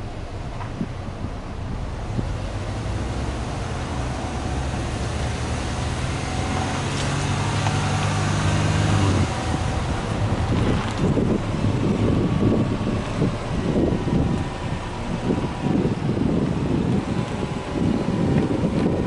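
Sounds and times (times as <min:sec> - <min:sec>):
car exhaust running steadily: 0:00.0 - 0:19.0.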